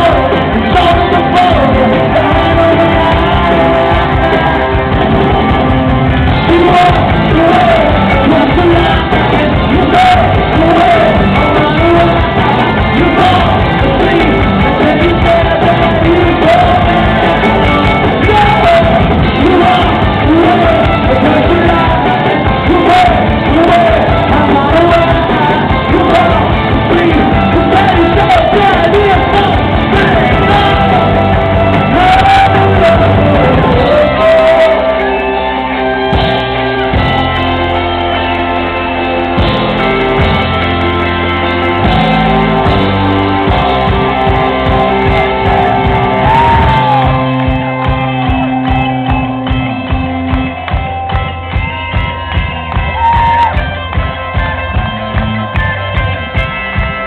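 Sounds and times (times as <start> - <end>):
lead singer singing: 0.0 - 37.4, 38.9 - 49.6
live rock band playing: 0.0 - 57.0.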